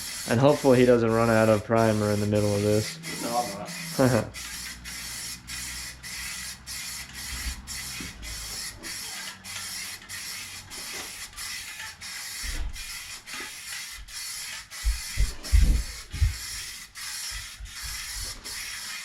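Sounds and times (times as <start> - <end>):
spray gun hissing: 0.0 - 19.0.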